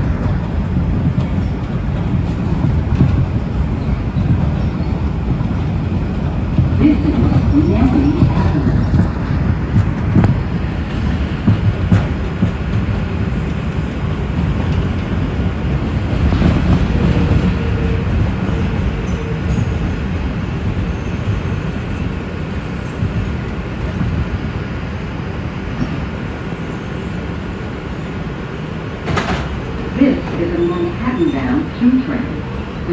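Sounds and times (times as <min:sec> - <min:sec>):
subway train rumbling: 0:00.0 - 0:32.9.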